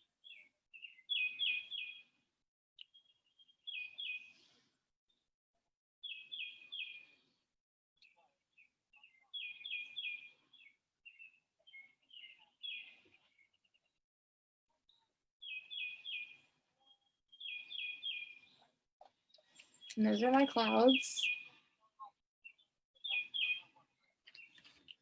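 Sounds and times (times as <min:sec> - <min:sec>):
songbird chirping: 0:00.2 - 0:02.2, 0:02.8 - 0:04.7, 0:06.0 - 0:07.4, 0:08.0 - 0:14.0, 0:14.9 - 0:25.0.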